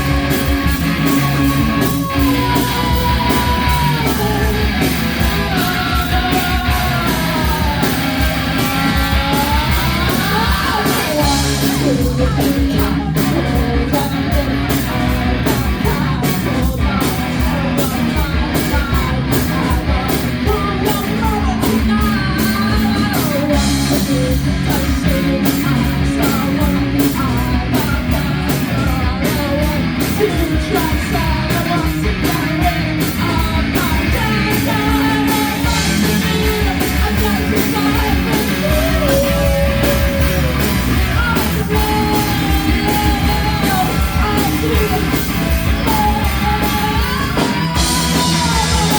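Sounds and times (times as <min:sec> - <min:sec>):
live rock band playing: 0:00.0 - 0:48.9
person singing: 0:00.0 - 0:48.9
steady drum beat: 0:00.0 - 0:48.9.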